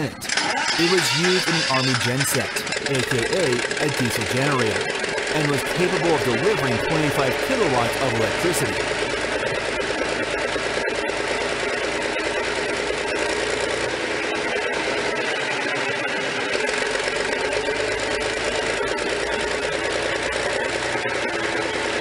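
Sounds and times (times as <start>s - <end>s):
diesel generator running: 0.0s - 22.0s.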